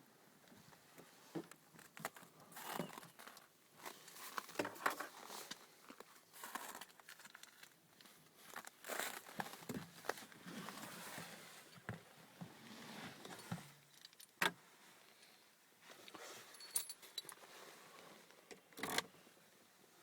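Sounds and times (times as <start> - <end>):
handling noise rustling and clicks: 1.0 - 15.3, 15.9 - 19.1.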